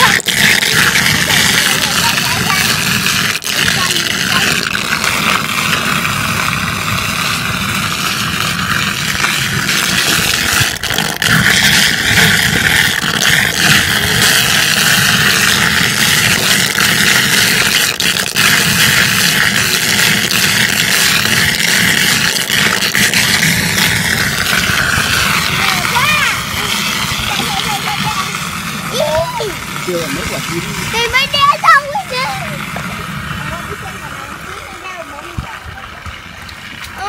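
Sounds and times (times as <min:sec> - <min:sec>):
water rushing off roof: 0:00.0 - 0:37.0.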